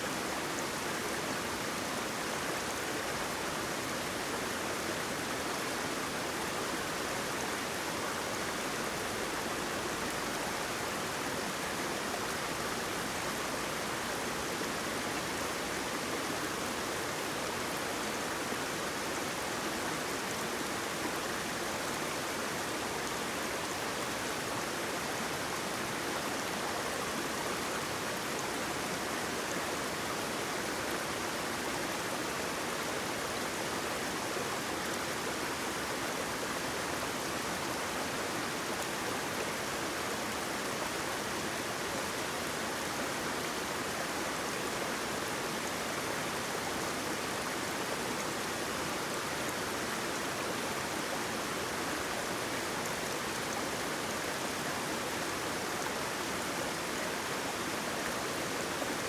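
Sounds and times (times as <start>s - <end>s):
flowing water rushing: 0.1s - 59.0s.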